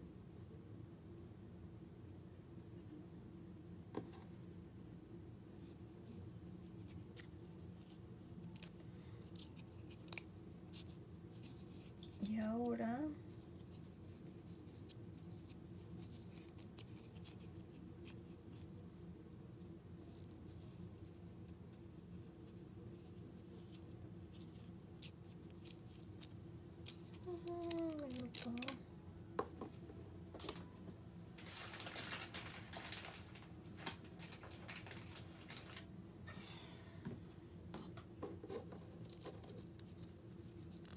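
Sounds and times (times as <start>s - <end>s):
hands rustling a craft: 4.0s - 28.8s, 29.5s - 35.9s, 37.7s - 40.9s.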